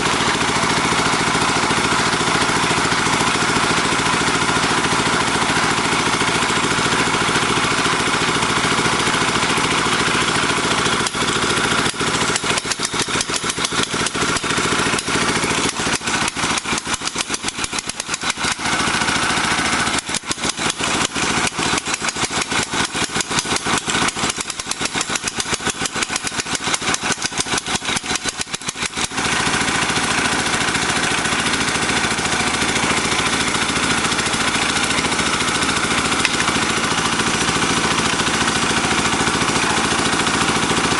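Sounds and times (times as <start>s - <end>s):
small drilling machine engine: 0.0s - 40.9s.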